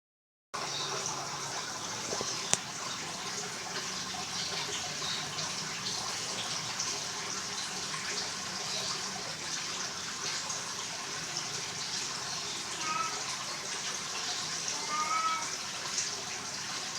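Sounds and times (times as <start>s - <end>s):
water running: 0.6s - 16.9s.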